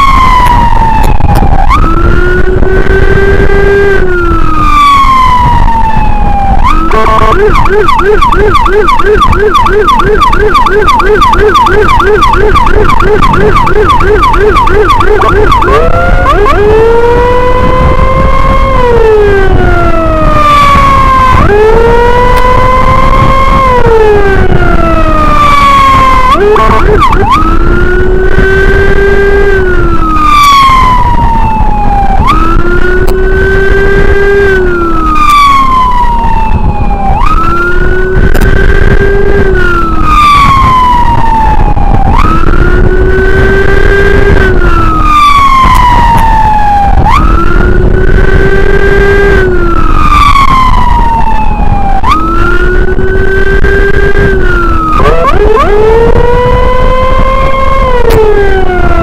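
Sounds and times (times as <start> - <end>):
electronic siren wailing: 0.0 - 59.0.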